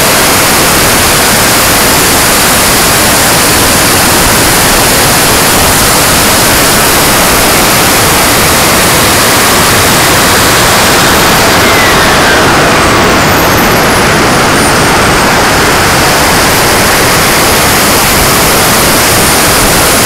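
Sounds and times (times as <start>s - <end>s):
faint whine falling in pitch: 0.0s - 20.0s
rushing wind: 0.0s - 20.0s
turbine engine: 0.0s - 20.0s.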